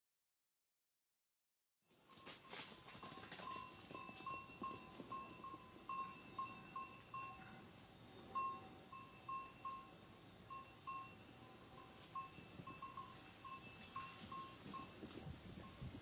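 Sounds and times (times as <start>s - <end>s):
goat bells clinking: 2.1s - 16.0s.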